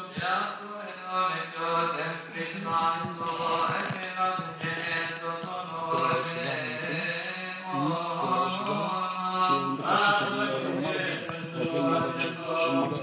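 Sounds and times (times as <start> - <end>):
men chanting a hymn: 0.0 - 13.0.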